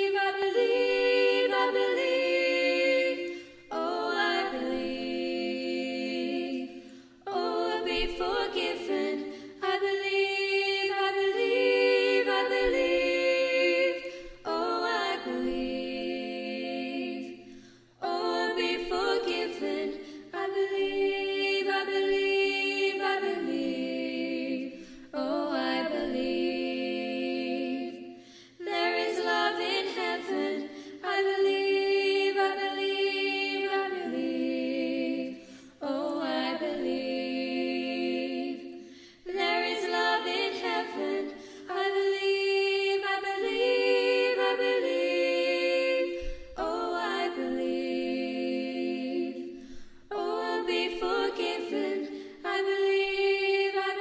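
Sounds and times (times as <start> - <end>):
women singing in harmony: 0.0 - 54.0.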